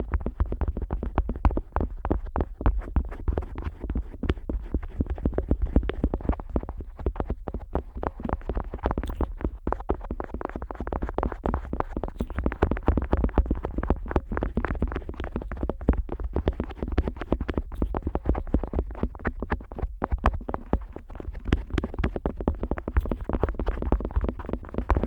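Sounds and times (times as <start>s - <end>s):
otoscope rubbing and tapping on microphone: 0.0s - 25.0s.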